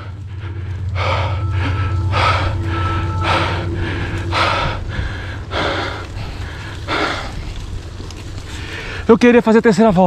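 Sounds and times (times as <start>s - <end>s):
heavy laboured breathing: 0.0s - 9.1s
low rumble: 0.0s - 9.1s.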